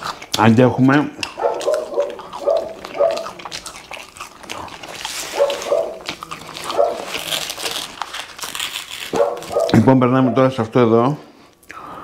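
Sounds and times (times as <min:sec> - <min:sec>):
chewing crunchy fries: 0:00.0 - 0:10.8.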